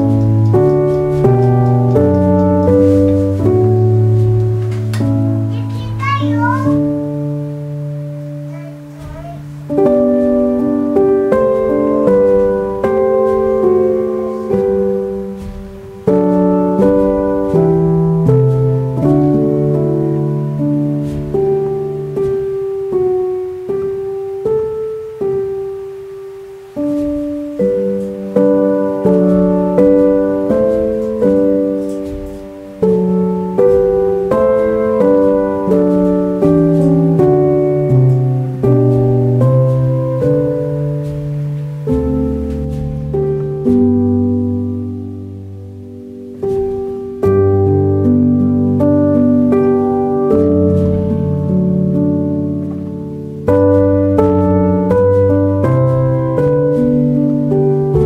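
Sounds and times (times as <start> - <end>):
slow piano chords: 0.0 - 58.0.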